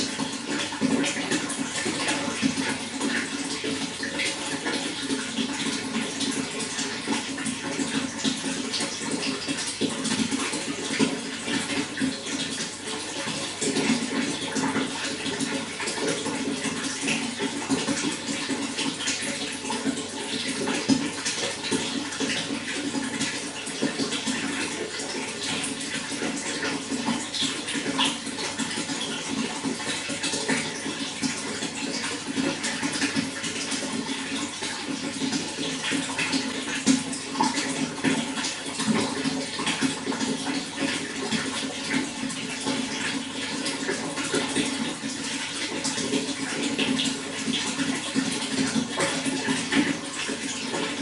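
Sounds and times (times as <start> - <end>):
running water rushing: 0.0 - 51.0.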